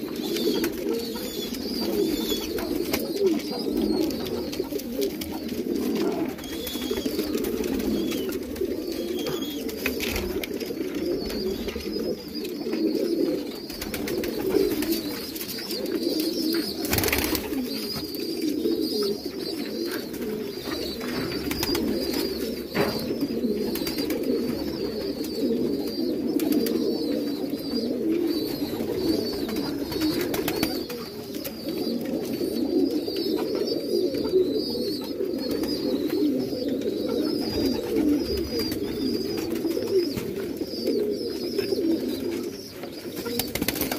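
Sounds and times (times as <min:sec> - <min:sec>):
pigeons cooing: 0:00.0 - 0:43.9.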